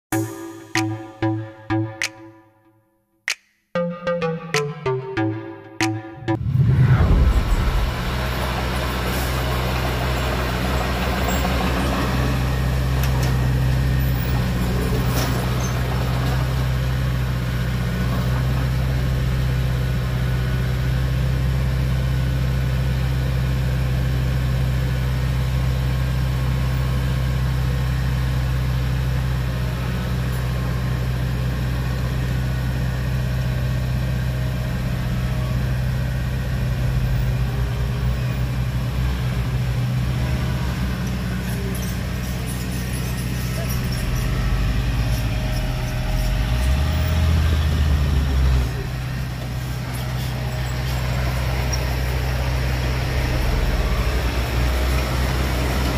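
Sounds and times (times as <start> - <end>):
bulldozer diesel engine droning: 6.1 - 55.9.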